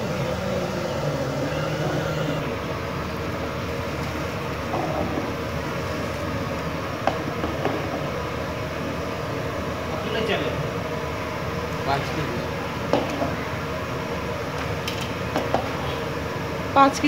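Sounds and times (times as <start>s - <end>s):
steady rumbling noise: 0.0s - 17.0s.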